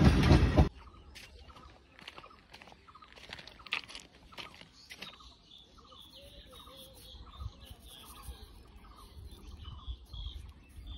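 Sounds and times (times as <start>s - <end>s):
bird chirps: 0.7s - 10.9s.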